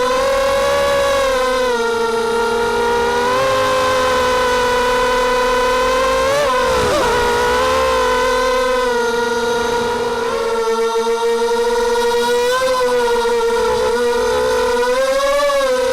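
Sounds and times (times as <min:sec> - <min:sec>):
quadcopter propellers whining: 0:00.0 - 0:15.9.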